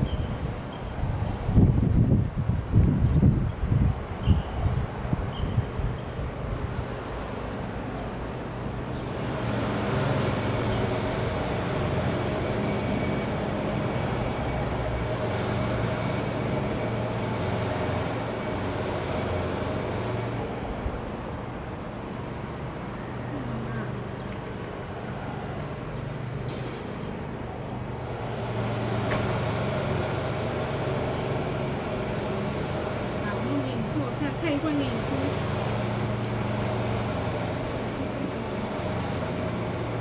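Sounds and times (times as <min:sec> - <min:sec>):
traffic engine drone: 0:00.0 - 0:40.0.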